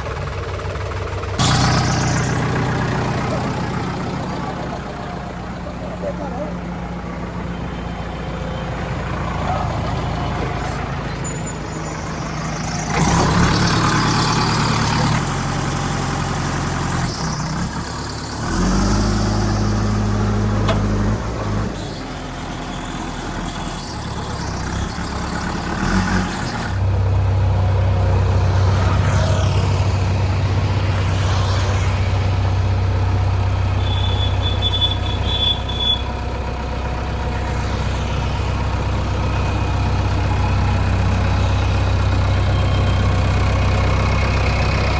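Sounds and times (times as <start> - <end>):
heavy diesel engine revving: 0.0 - 44.9.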